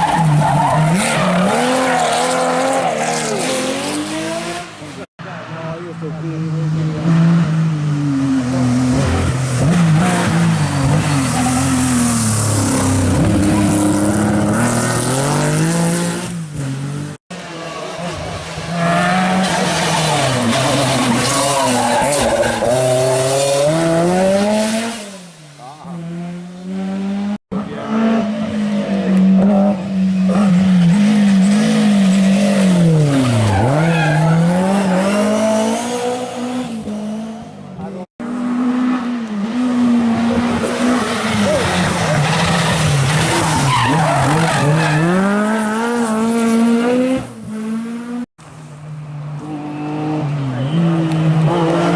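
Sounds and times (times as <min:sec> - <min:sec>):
rally car engine revving hard: 0:06.4 - 0:17.2, 0:17.8 - 0:37.6, 0:38.2 - 0:48.3, 0:49.6 - 0:51.9.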